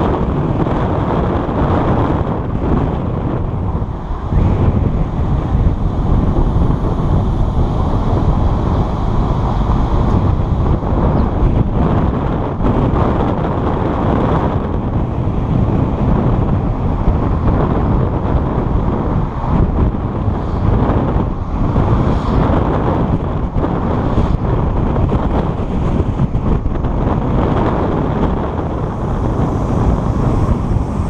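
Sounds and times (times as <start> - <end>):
car road noise: 0.0 - 31.0
wind rumble on microphone: 0.0 - 31.0.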